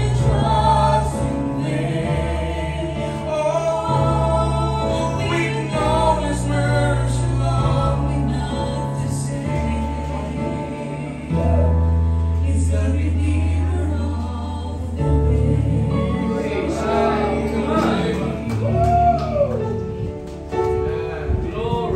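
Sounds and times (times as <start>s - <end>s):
man and woman singing duet: 0.0s - 19.9s.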